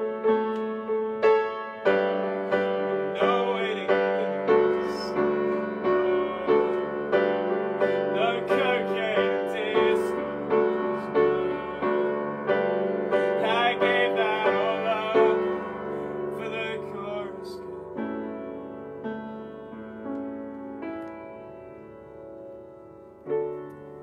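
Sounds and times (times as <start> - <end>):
upright piano chords: 0.0 - 24.0.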